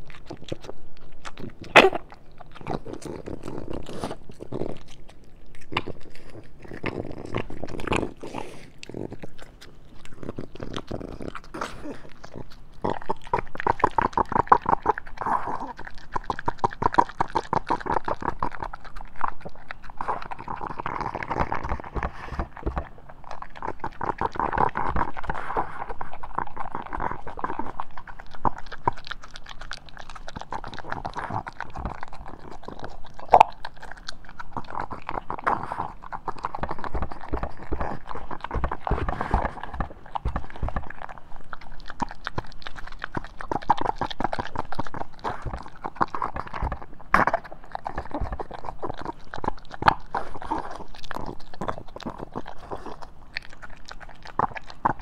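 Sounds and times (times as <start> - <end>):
dog chewing and crunching: 0.0 - 55.0
dog licking and gulping: 0.0 - 55.0.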